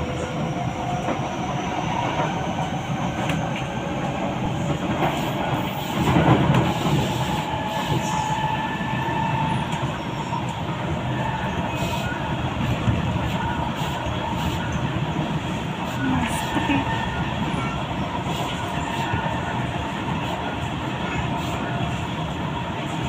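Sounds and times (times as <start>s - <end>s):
metro train rumbling: 0.0s - 23.0s.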